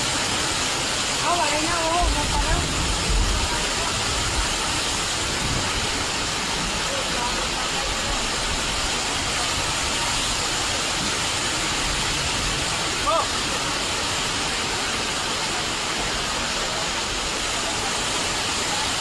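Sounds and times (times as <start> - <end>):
heavy rain hissing: 0.0 - 19.0
rushing floodwater: 0.0 - 19.0.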